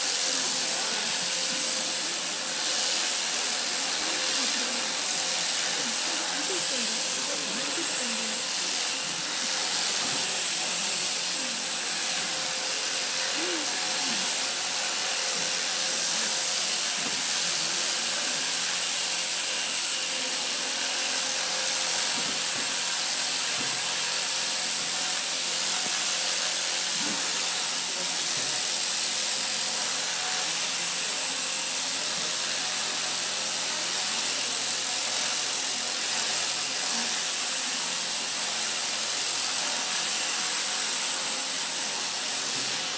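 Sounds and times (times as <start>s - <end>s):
electric sheep shears buzzing: 0.0s - 42.9s.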